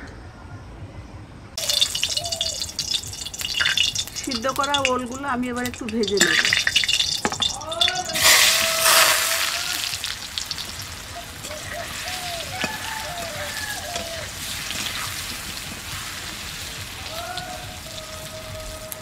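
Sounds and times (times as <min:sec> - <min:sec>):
vegetables sizzling and crackling in oil: 0:01.6 - 0:19.0.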